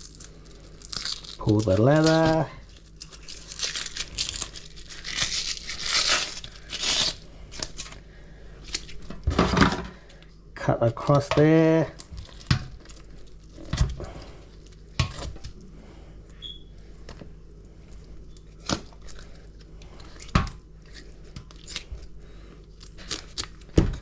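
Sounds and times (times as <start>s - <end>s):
tearing and crinkling handling: 0.0s - 9.1s, 11.1s - 15.7s, 17.6s - 24.0s.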